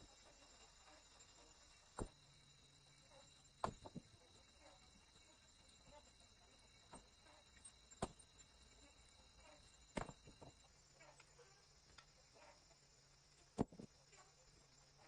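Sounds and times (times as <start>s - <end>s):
faint steady high tone: 0.0s - 15.0s.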